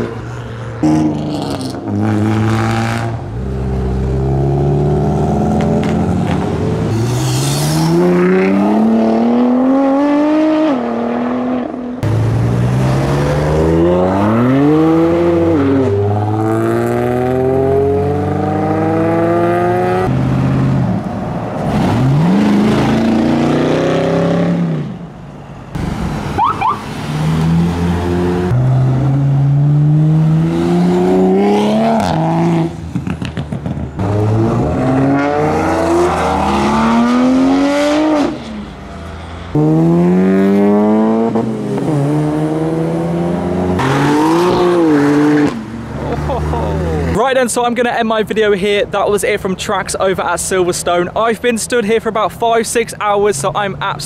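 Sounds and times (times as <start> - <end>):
car engines accelerating: 0.0 - 47.6.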